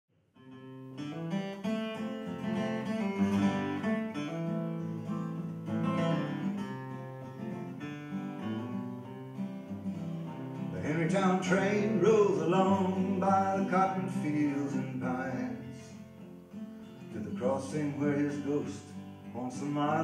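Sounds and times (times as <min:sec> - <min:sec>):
acoustic guitar playing: 0:00.2 - 0:20.0.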